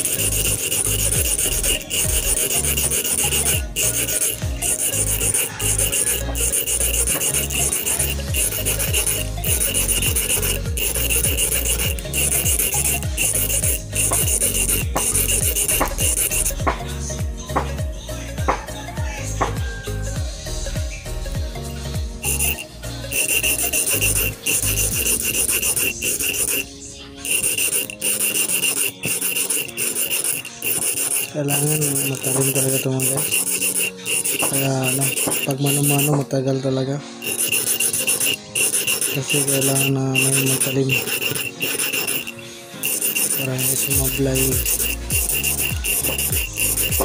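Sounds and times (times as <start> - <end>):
hand file rasping: 0.0 - 16.9, 22.2 - 36.4, 37.2 - 47.0.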